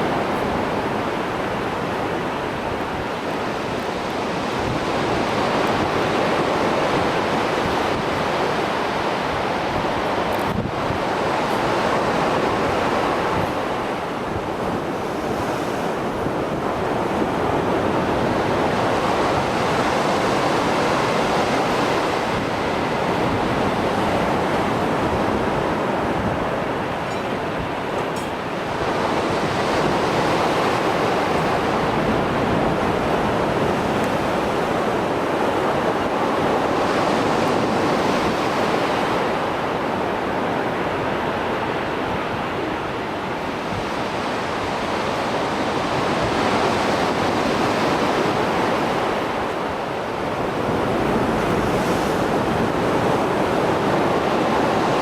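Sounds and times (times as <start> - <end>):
surf waves breaking: 0.0 - 55.0
wind on microphone: 0.0 - 55.0.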